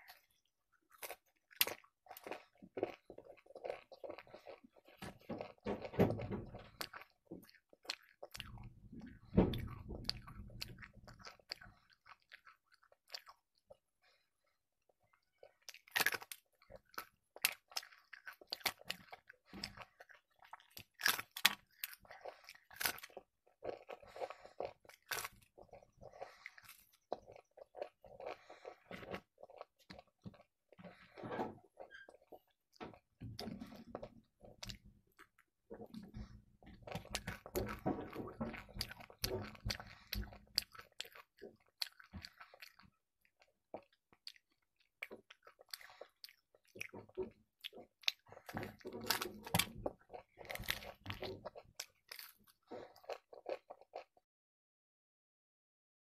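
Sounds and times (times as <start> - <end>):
crisp fried bread crunching: 0.0 - 14.1, 14.8 - 54.2
chewing: 0.0 - 54.2.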